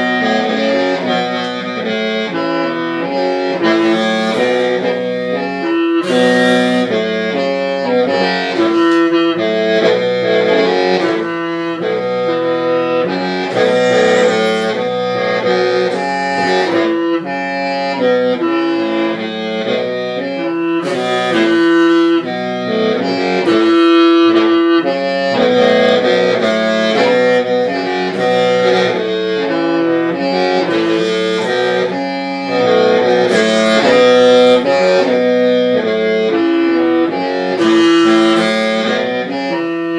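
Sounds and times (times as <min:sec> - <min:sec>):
bamboo mouth organ melody over drone: 0:00.0 - 0:39.9.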